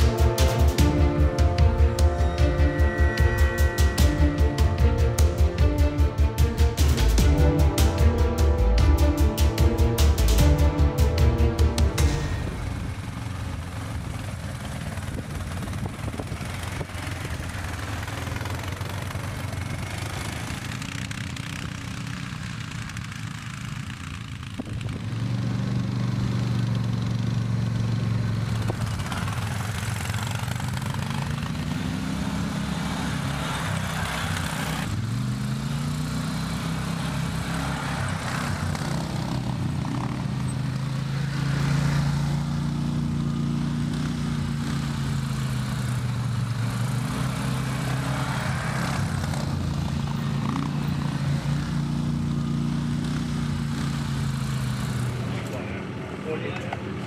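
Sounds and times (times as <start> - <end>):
atv engines revving: 0.0 - 57.0.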